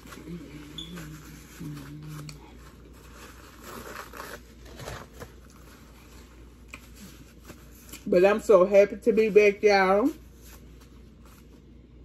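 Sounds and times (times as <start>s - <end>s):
paper napkin crinkling: 0.0s - 12.0s.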